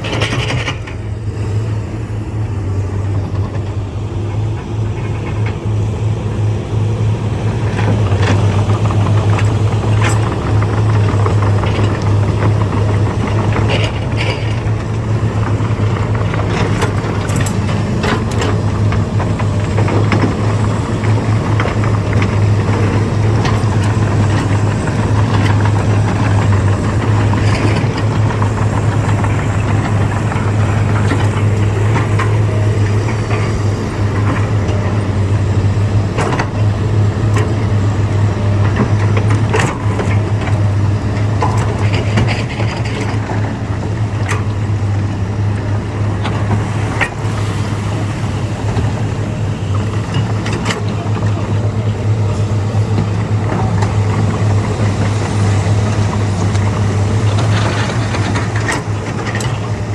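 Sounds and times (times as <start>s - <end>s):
heavy diesel engine droning: 0.0s - 59.9s.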